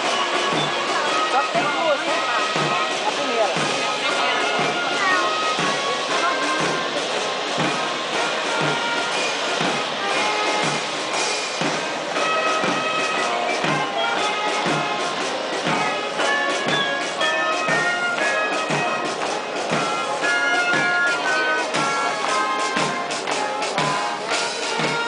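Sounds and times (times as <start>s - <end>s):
brass instruments melody: 0.0s - 25.0s
steady drum beat: 0.0s - 25.0s.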